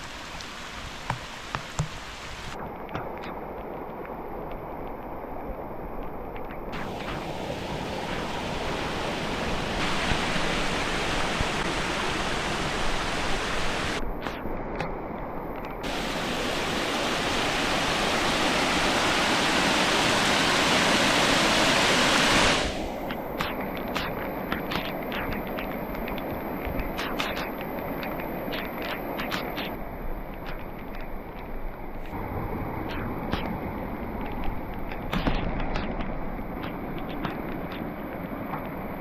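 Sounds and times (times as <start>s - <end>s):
heavy rain and runoff rushing: 0.0s - 39.0s.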